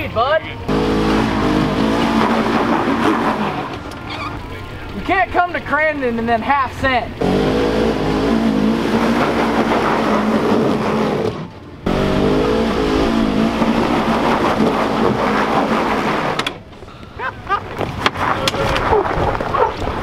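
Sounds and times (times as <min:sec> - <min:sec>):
utv engine working hard: 0:00.6 - 0:16.8.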